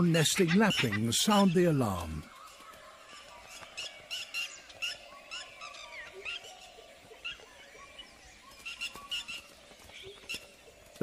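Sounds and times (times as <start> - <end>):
lapwing alarm calls: 0.0 - 11.0.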